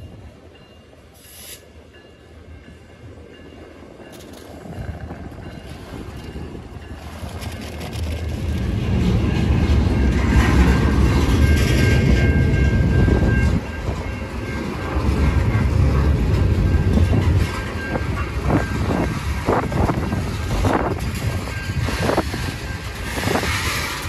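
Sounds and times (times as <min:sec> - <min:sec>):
freight cars rumbling on rails: 0:01.8 - 0:24.0.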